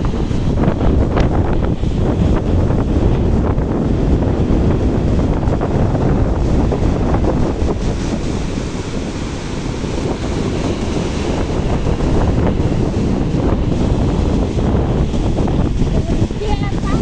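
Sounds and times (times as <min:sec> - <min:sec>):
surf breaking on rocky shore: 0:00.0 - 0:17.0
wind buffeting microphone: 0:00.0 - 0:17.0.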